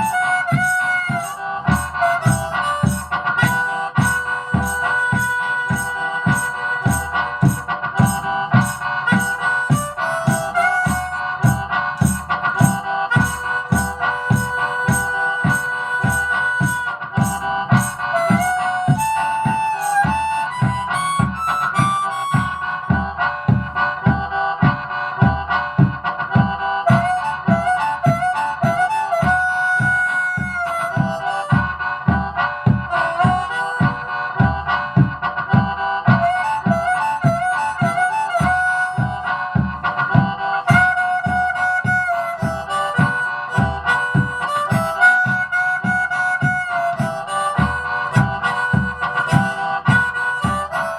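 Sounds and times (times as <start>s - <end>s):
harmonica playing: 0.0s - 50.9s
steady low beat: 0.0s - 50.9s.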